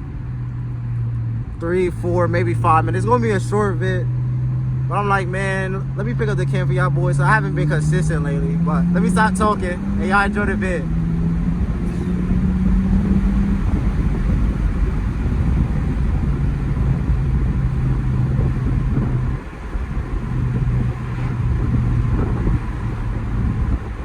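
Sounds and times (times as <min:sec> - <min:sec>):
loud car exhaust drone: 0:00.0 - 0:24.0
wind and road noise: 0:00.0 - 0:24.0.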